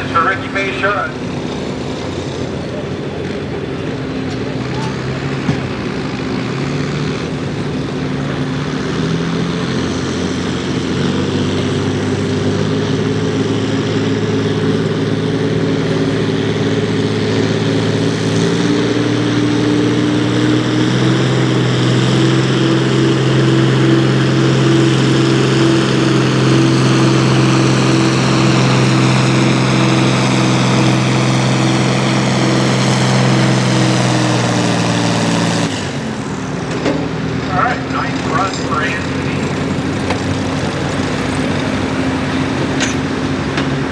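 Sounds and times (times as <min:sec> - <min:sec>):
diesel tractor engine under load: 0:00.0 - 0:43.9.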